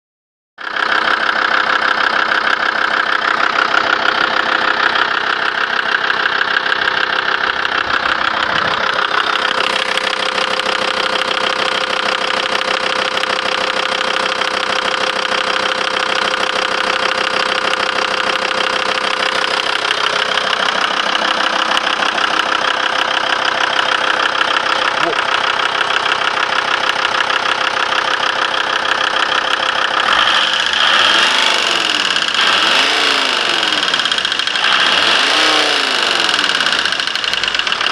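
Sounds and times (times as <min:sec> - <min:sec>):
diesel engine idling: 0:00.6 - 0:37.9.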